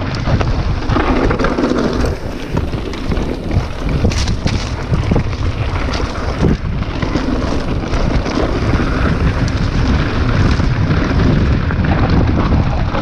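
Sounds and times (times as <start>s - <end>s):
bike rattling and knocking: 0.0s - 13.0s
tyres rumbling on dirt trail: 0.0s - 13.0s
wind buffeting microphone: 0.0s - 13.0s.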